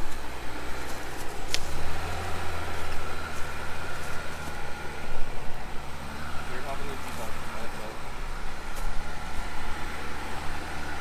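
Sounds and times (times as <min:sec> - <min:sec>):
engine running low: 0:00.0 - 0:11.0.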